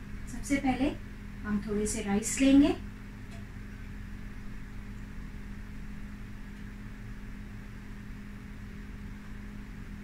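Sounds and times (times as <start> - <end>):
low machine-like hum: 0.0 - 10.0.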